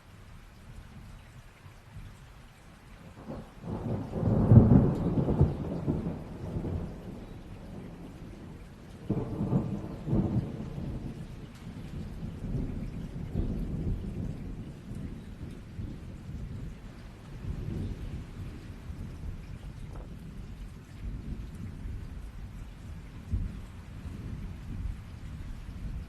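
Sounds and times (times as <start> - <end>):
steady rain: 0.0 - 26.0
rolling thunder: 3.2 - 26.0.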